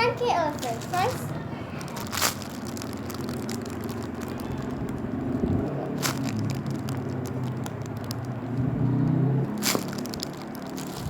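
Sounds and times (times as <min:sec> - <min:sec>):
squishy toy crackling: 0:00.3 - 0:11.0.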